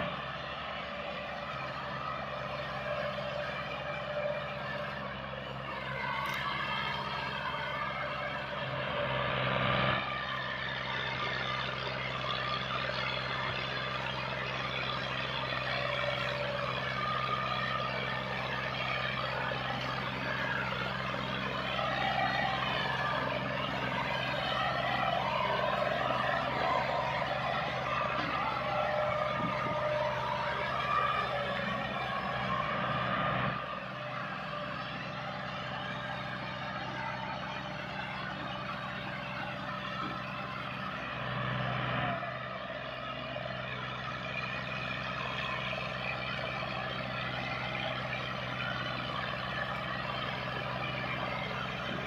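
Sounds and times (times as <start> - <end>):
tractor engines droning under load: 0.0 - 52.0.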